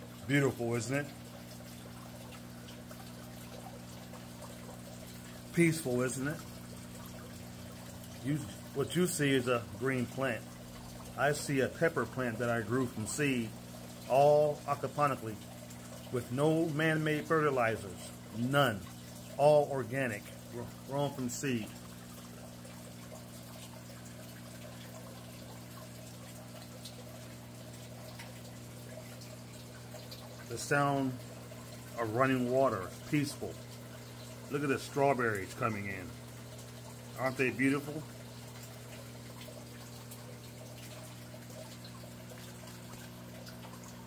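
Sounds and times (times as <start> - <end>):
water running and trickling: 0.0 - 44.0.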